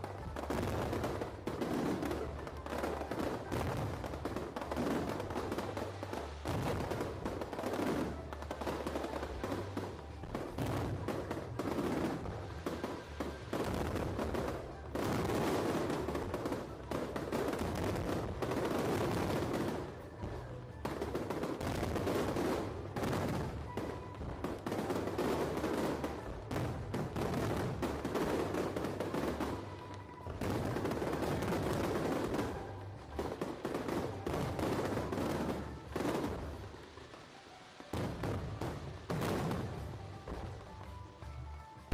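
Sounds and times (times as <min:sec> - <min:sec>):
fireworks bangs and crackle: 0:00.0 - 0:41.9.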